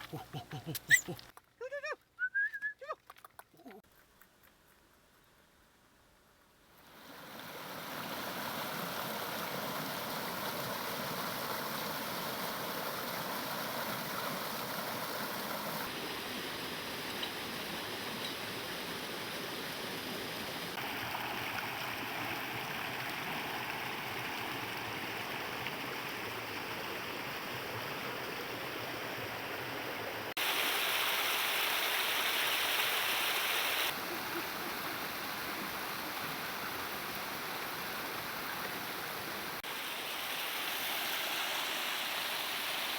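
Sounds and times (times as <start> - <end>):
stream water rushing: 6.8 - 42.9.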